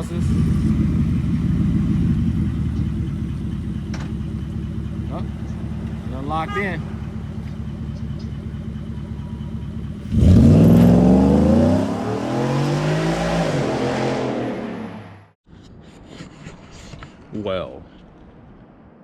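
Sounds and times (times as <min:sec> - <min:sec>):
car engine idling and accelerating: 0:00.0 - 0:15.4.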